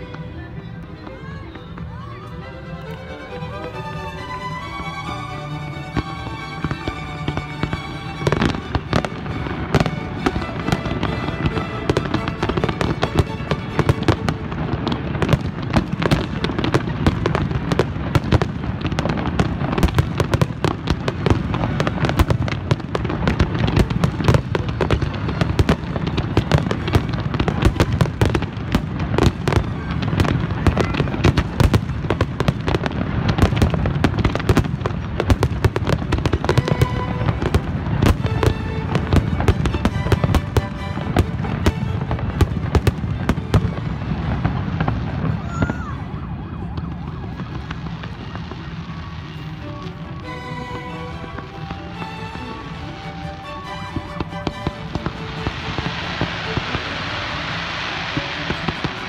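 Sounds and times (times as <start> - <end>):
music: 0.0 - 33.8, 35.4 - 44.6, 49.3 - 59.0
fireworks bursts and bangs: 0.0 - 59.0.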